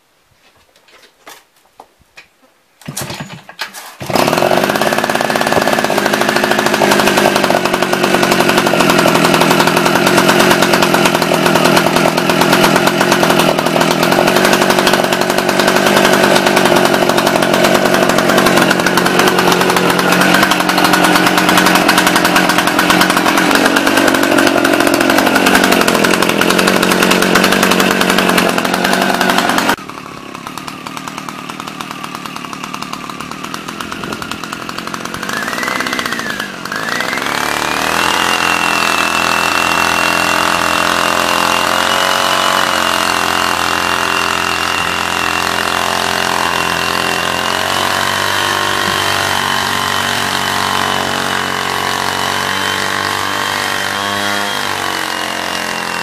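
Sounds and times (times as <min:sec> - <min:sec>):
two-stroke blower engine running: 0:04.0 - 0:56.0.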